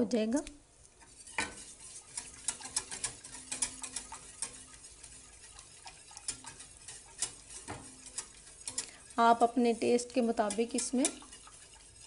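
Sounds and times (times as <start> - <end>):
whisk scraping metal saucepan: 0.2 - 12.0.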